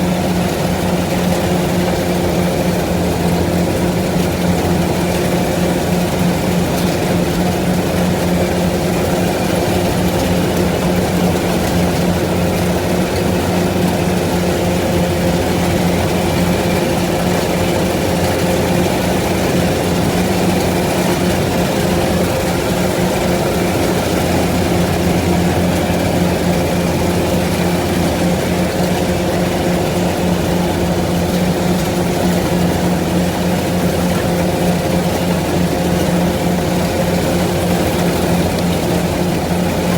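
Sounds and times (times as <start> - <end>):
farm machine engine humming: 0.0 - 39.9.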